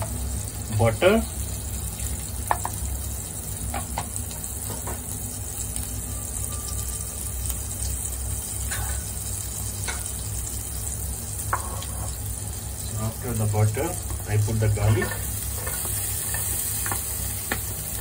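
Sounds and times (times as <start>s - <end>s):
butter sizzling in a pan: 0.0s - 18.0s.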